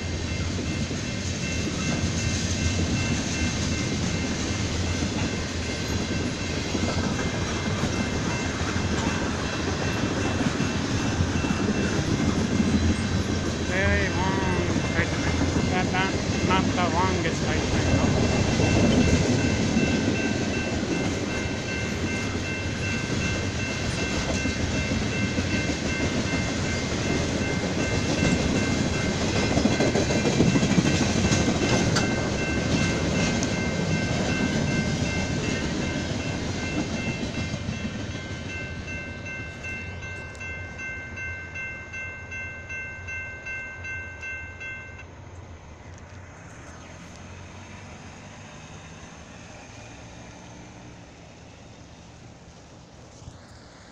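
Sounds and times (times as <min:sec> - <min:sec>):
train wheels rumbling and clacking: 0:00.0 - 0:44.8.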